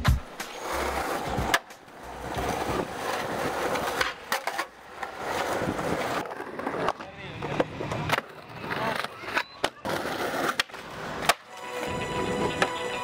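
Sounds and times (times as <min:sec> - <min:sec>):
skateboard wheels rolling on concrete: 0:00.0 - 0:13.0
skateboard clacking on ground: 0:00.2 - 0:11.6.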